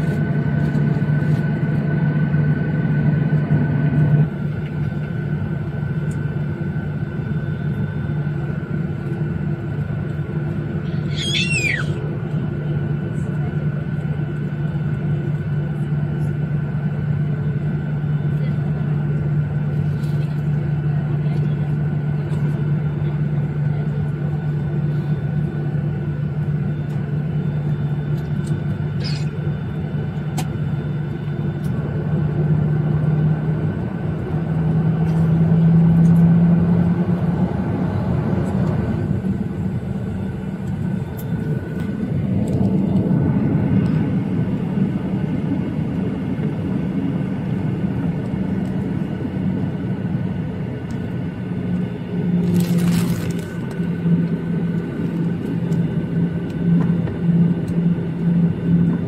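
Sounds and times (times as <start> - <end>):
jet engine cabin hum: 0.0 - 59.0.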